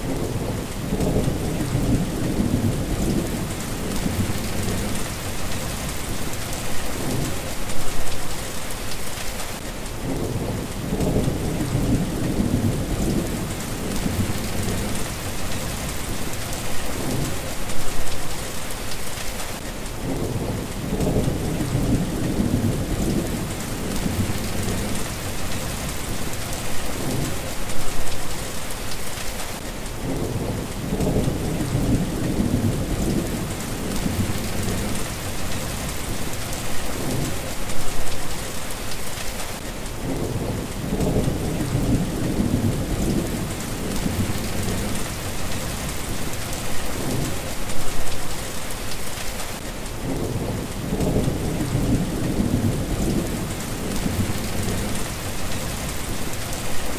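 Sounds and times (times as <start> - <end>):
low rumbles of thunder: 0.0 - 7.9, 10.0 - 17.5, 20.0 - 27.9, 30.0 - 38.1, 40.0 - 47.9, 50.0 - 56.9
steady rain falling: 0.0 - 56.9.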